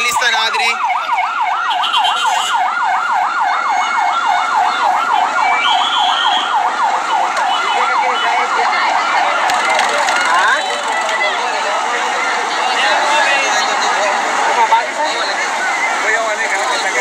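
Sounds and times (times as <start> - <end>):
emergency siren yelping: 0.0 - 17.0.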